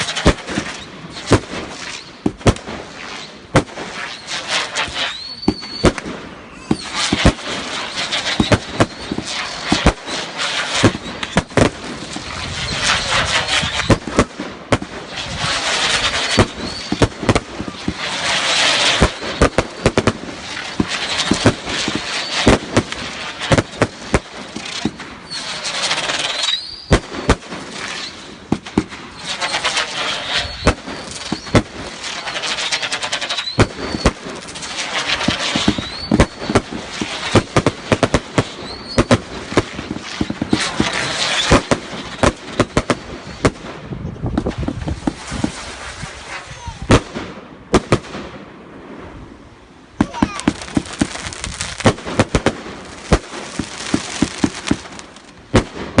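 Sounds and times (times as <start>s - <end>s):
fireworks bangs and crackling: 0.0s - 56.0s
whistling fireworks: 0.0s - 56.0s.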